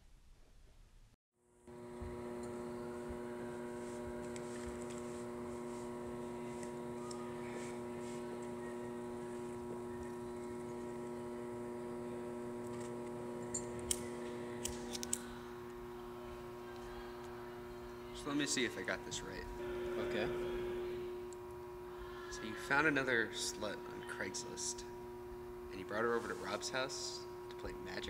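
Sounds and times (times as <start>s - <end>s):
electrical mains hum: 0.4s - 28.0s.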